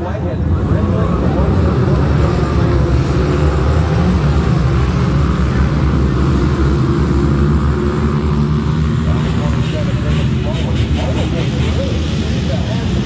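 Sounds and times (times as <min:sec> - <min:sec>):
many small engines droning: 0:00.0 - 0:13.0.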